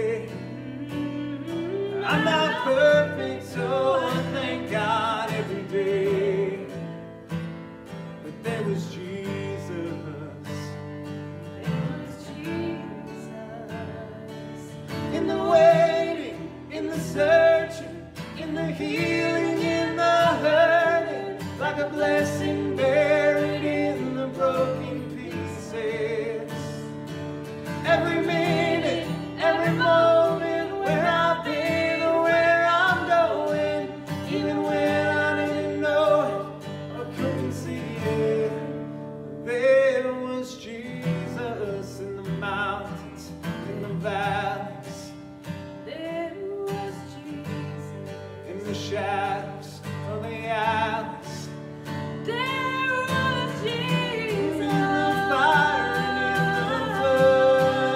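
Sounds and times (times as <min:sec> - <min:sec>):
woman and man singing: 0:00.0 - 0:06.8, 0:08.3 - 0:10.7, 0:11.6 - 0:38.8, 0:39.5 - 0:45.2, 0:45.8 - 0:57.9
acoustic guitar: 0:00.0 - 0:57.9.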